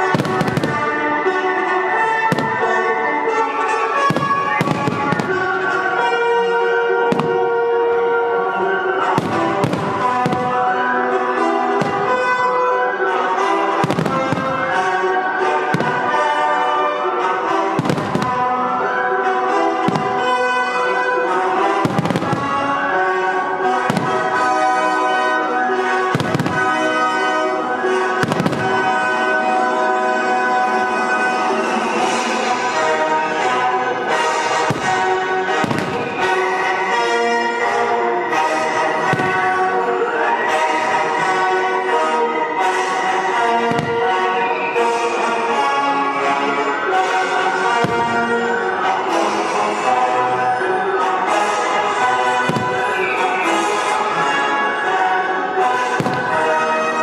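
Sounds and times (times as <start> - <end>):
instrumental music: 0.0 - 57.0.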